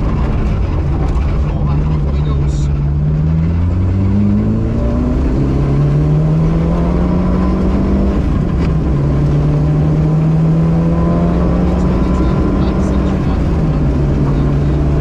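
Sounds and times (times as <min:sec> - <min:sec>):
rally car engine accelerating: 0:00.0 - 0:15.0
road rumble on gravel: 0:00.0 - 0:15.0.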